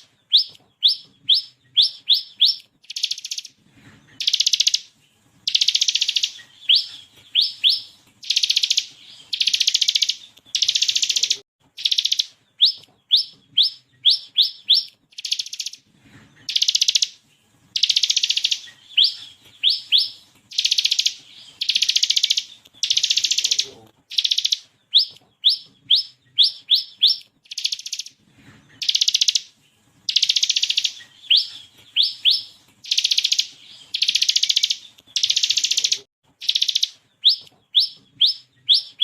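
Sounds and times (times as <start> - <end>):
bird singing rattling trills: 0.0 - 15.8, 16.4 - 28.2, 28.8 - 39.0.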